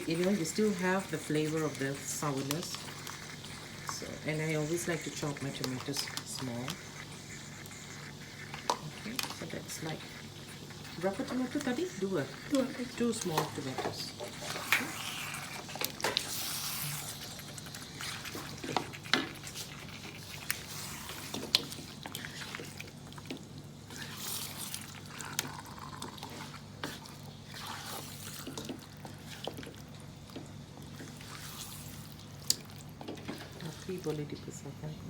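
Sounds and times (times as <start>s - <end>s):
wet liquid sounds: 0.0s - 34.6s.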